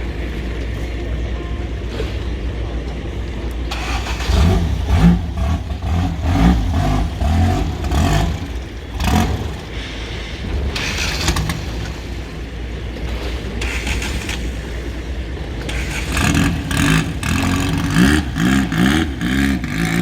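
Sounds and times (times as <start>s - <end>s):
boat engine revving: 0.0s - 20.0s.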